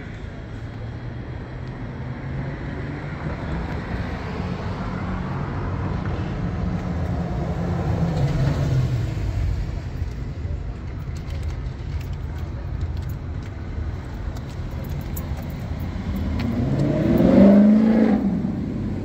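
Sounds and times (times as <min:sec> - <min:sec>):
passing vehicle engine and tyres: 0:00.0 - 0:19.0.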